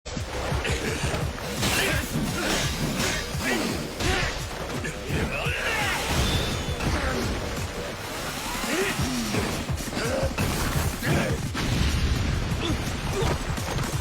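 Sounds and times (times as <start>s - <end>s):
background music: 0.1s - 14.0s.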